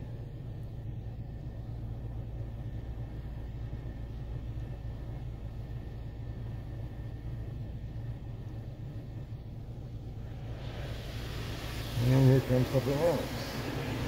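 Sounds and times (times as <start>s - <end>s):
low rumble and hum in car: 0.0s - 14.0s.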